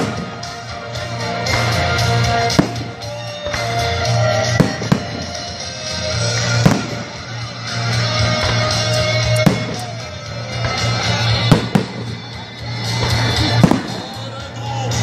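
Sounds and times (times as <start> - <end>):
music with steady bass line: 0.0 - 15.0.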